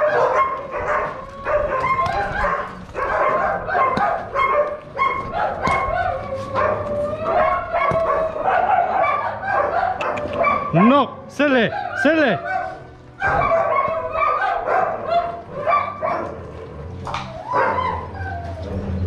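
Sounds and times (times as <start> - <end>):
dogs barking and yelping: 0.0 - 19.0.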